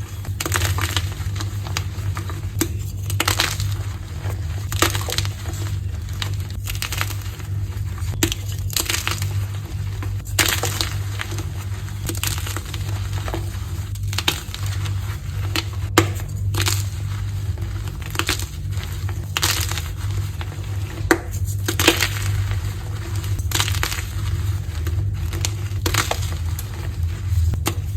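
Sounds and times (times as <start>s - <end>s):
chalk blocks being crushed: 0.0s - 27.9s
steady low hum: 0.0s - 27.9s.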